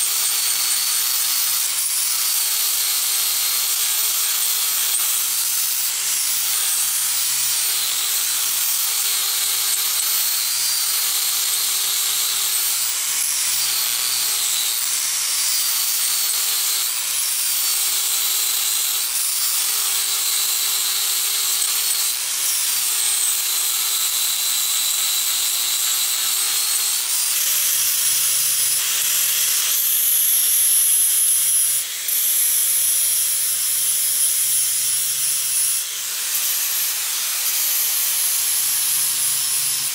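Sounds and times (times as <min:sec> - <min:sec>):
angle grinder sanding wood: 0:00.0 - 0:39.9.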